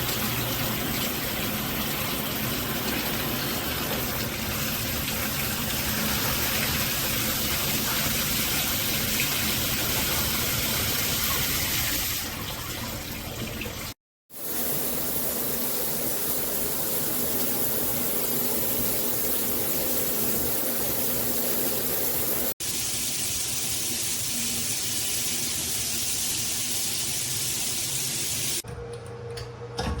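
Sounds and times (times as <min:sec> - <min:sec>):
shower water spraying: 0:00.0 - 0:12.5, 0:14.3 - 0:28.6.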